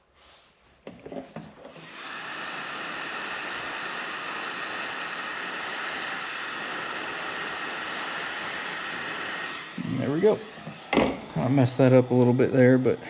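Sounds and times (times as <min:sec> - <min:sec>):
heat gun blowing: 0:00.0 - 0:13.0.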